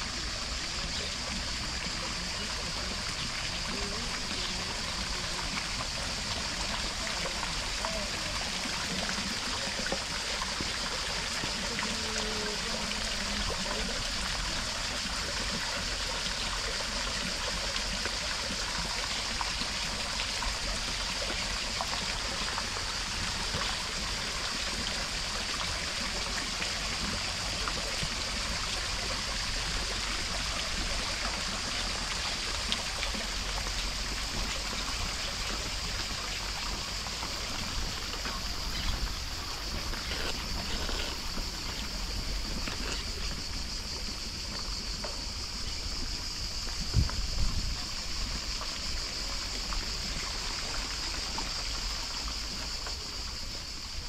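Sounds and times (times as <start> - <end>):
faint voices: 0.0 - 49.8
running water rushing: 0.0 - 54.0.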